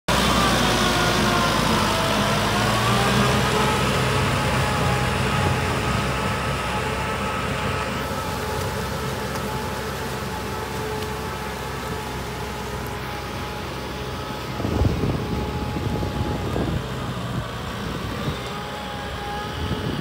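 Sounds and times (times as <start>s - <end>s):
tractor diesel engine running: 0.1s - 20.0s.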